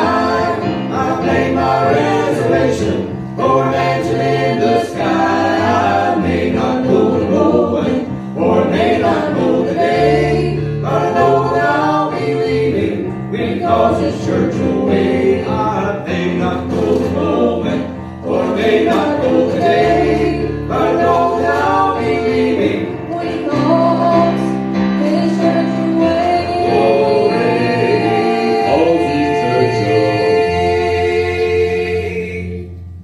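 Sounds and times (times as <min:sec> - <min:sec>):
gospel choir singing: 0:00.0 - 0:33.0.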